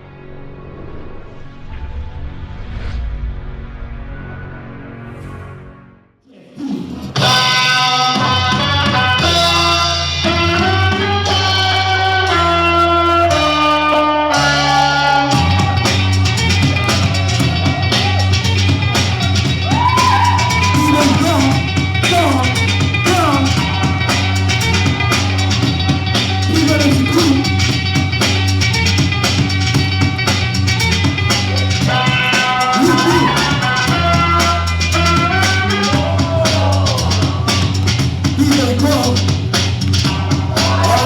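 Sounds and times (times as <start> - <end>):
loud music with drums: 7.0 - 41.0.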